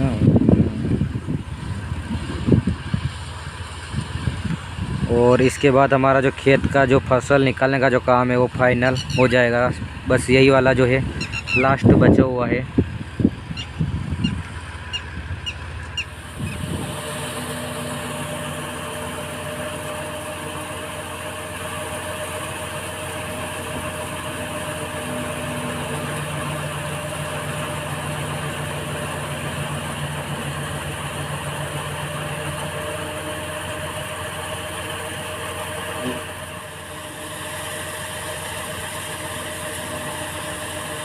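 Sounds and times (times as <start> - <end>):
thresher humming and rattling: 0.0 - 41.0.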